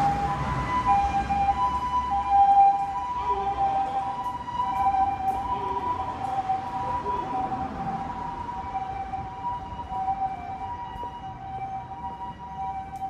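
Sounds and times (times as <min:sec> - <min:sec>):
two-tone electronic siren: 0:00.0 - 0:13.0.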